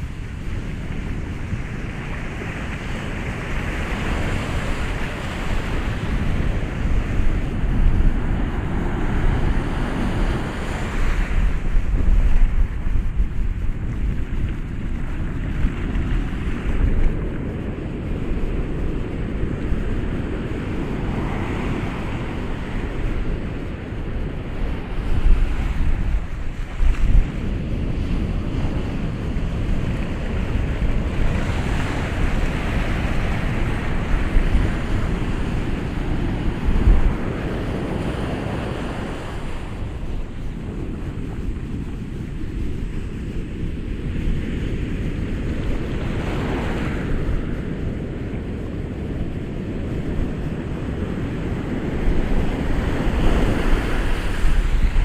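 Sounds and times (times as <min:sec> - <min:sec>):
ocean waves breaking: 0:00.0 - 0:55.0
wind buffeting microphone: 0:00.0 - 0:55.0.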